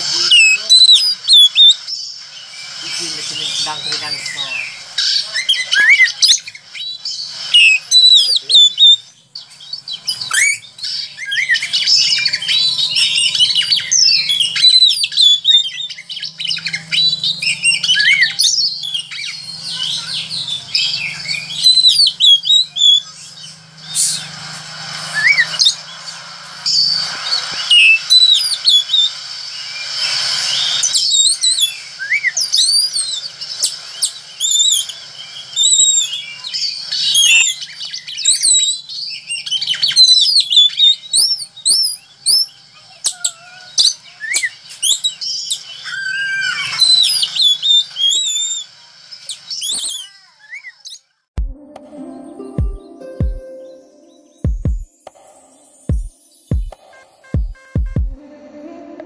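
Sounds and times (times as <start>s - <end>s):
bird singing rapid chirps: 0.0s - 58.2s.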